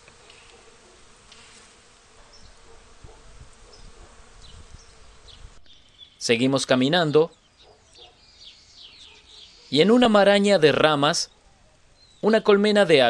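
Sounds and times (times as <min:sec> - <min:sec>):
bees humming faintly: 0:00.0 - 0:13.0.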